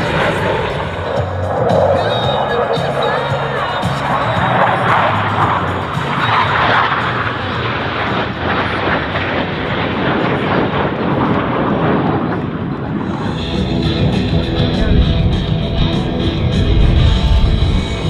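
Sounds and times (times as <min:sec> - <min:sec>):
jet noise rushing: 0:00.0 - 0:18.0.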